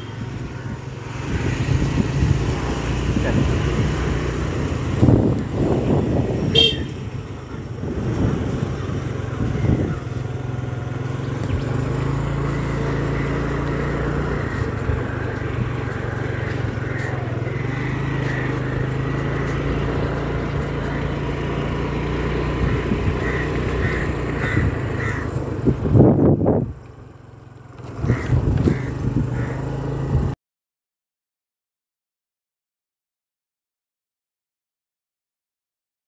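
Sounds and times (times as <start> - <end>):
constant rushing noise: 0.0 - 27.0, 27.6 - 30.3
vehicle engine running: 0.0 - 30.4.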